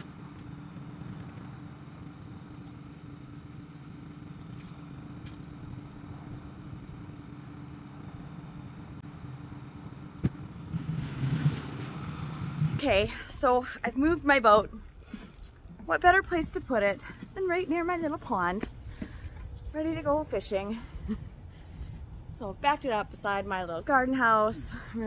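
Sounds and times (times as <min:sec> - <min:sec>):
truck engine humming: 0:00.0 - 0:25.0.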